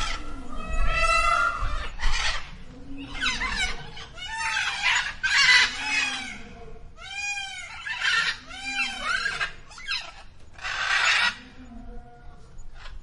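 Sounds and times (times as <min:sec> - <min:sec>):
animal squawking: 0:00.0 - 0:11.4.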